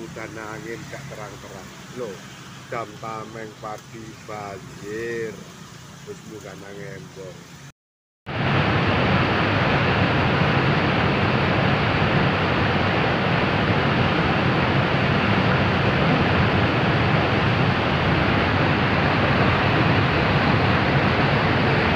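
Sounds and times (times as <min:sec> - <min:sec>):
floodwater rushing: 0:00.0 - 0:07.7, 0:08.4 - 0:21.9.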